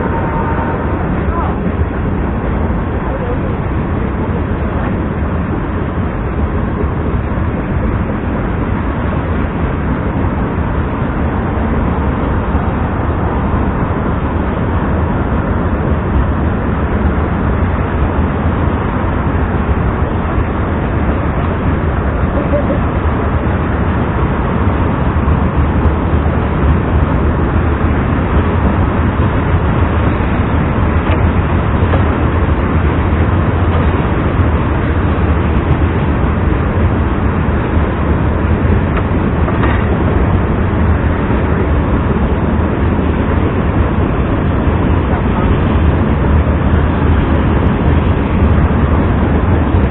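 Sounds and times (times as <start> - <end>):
low rumble: 0.0 - 49.9.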